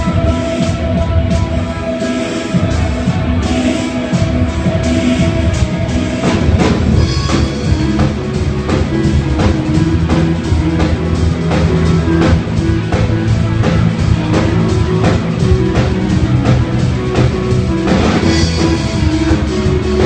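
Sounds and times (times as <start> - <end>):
bass notes: 0.0 - 20.0
drum kit beat: 0.0 - 20.0
electric guitar: 0.0 - 20.0.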